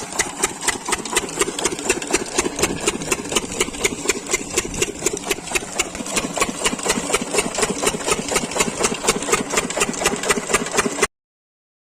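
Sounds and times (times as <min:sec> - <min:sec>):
diesel engine chugging: 0:00.0 - 0:11.1.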